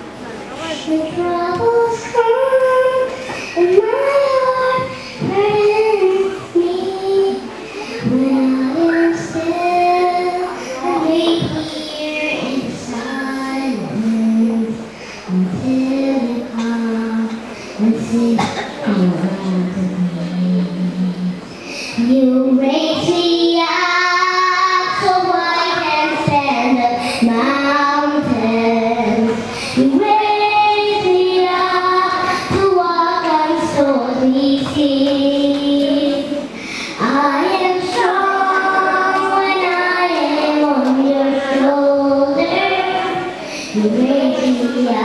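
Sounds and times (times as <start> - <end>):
girl singing into a microphone: 0.5 - 45.0.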